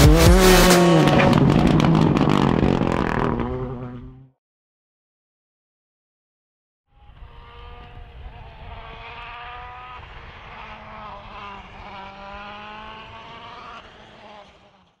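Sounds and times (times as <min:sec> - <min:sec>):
car engine accelerating: 0:00.0 - 0:04.3, 0:07.0 - 0:15.0.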